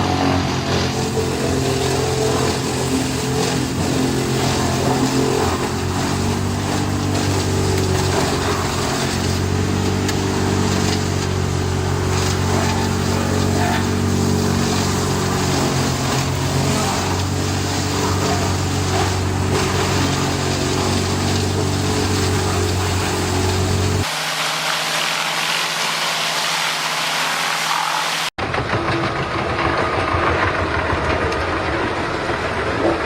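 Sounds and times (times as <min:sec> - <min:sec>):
wood chipper engine drone: 0:00.0 - 0:33.0
wood shredding: 0:00.0 - 0:33.0.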